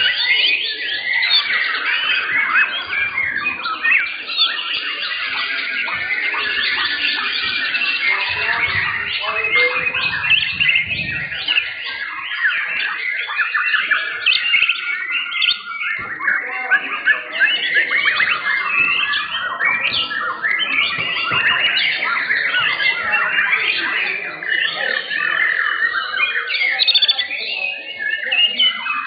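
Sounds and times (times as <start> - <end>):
birds whistling and chirping: 0.0 - 29.0.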